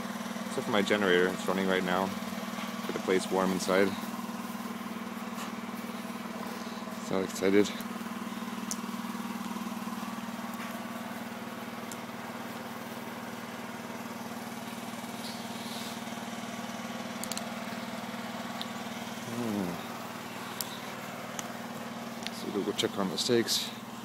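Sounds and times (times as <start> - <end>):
generator engine humming: 0.0 - 24.0.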